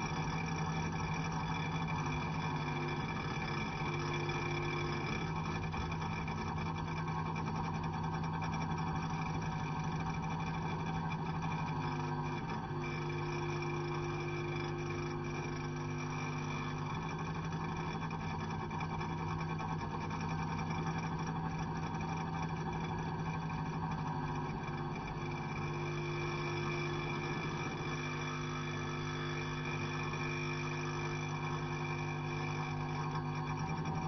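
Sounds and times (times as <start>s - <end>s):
electric meter humming: 0.0s - 34.0s.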